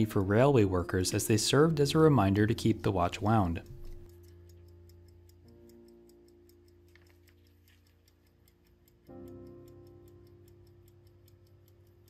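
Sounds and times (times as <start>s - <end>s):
pocket watch ticking: 0.0s - 12.0s
soft background music: 0.0s - 12.0s.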